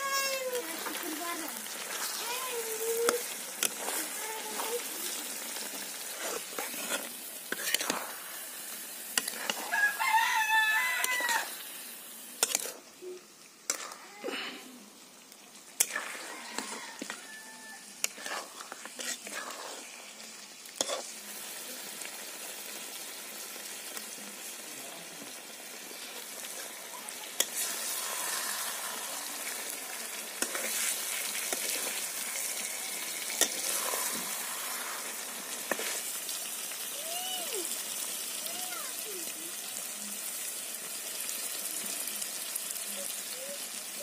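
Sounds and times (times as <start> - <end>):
chicken sizzling in pan: 0.0 - 44.0.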